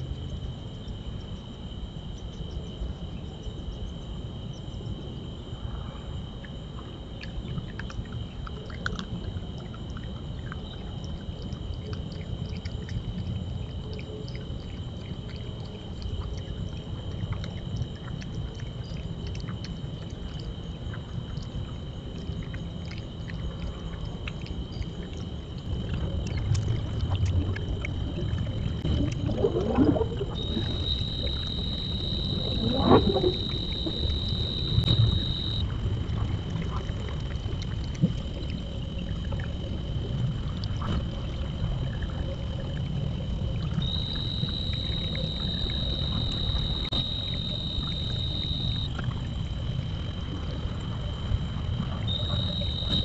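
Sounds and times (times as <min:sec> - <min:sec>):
low steady rumble: 0:00.0 - 0:53.0
night insects chirring: 0:00.0 - 0:53.0.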